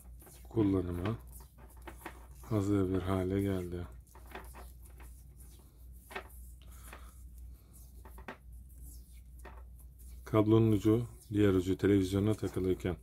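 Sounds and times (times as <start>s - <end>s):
cable handling rubbing and clicks: 0.0s - 13.0s.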